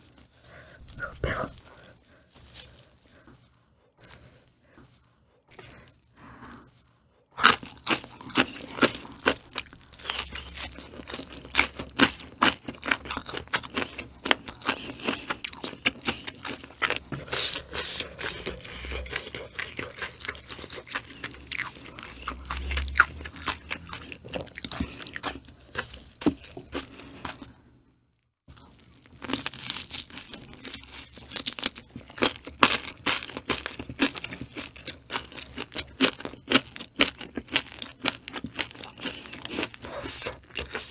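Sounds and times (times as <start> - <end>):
chewing crunchy food: 0.0 - 27.6, 28.5 - 40.9.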